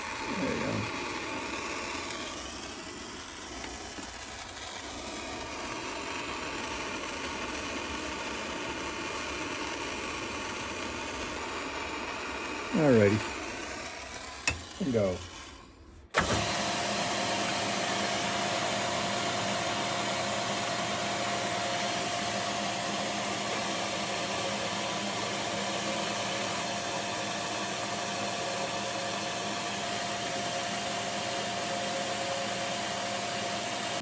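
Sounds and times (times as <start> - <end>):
shop machine whirring: 0.0 - 34.0.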